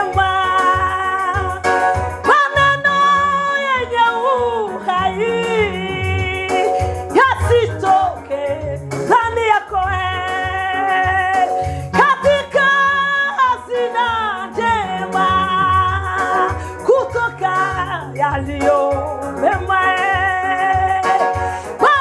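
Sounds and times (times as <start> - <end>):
backing track with pulsing bass: 0.0 - 22.0
woman singing gospel song: 0.0 - 22.0.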